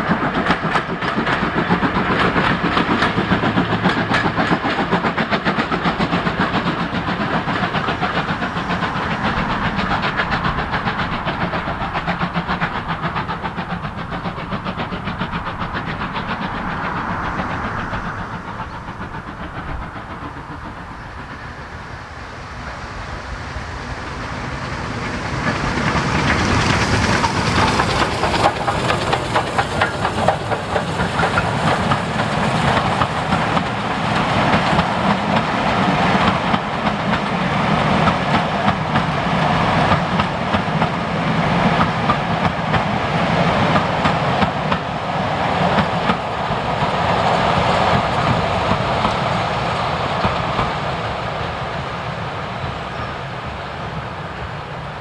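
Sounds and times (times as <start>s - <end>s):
train clattering over rail joints: 0.0s - 55.0s.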